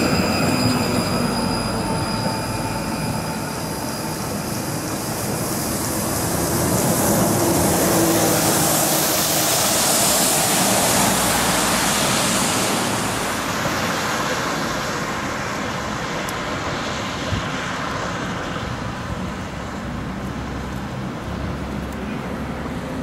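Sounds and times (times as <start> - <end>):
distant traffic: 0.0 - 23.0
lorry tyre hiss on wet road: 3.6 - 23.0.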